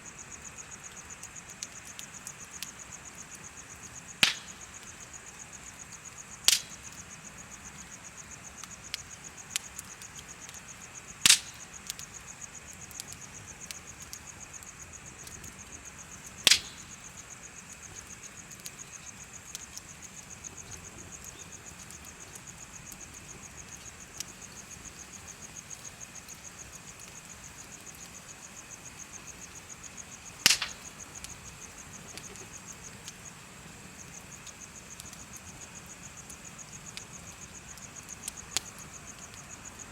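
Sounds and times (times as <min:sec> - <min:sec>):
insects trilling: 0:00.0 - 0:39.9
bonfire crackling and popping: 0:00.1 - 0:39.9.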